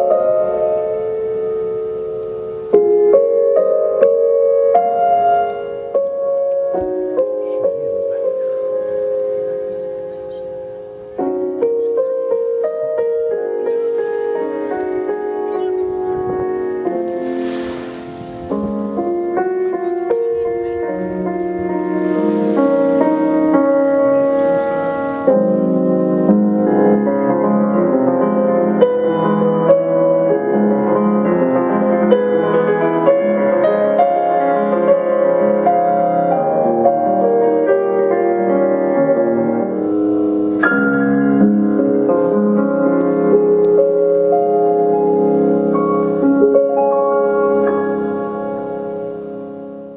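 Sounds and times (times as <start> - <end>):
background piano music: 0.0 - 49.9.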